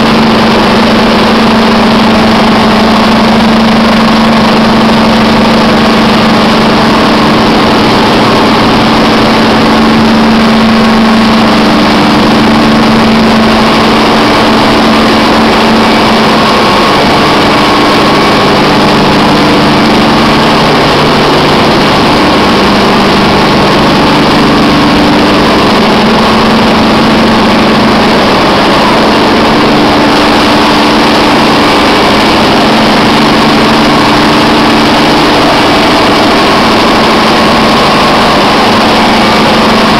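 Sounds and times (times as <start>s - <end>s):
engine running with constant hum: 0.0s - 39.9s.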